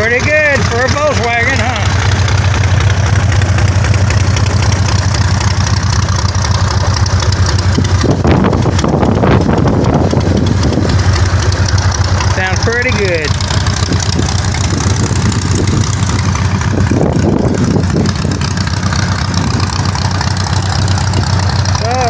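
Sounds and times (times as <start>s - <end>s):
aircraft engine idling: 0.0s - 22.0s.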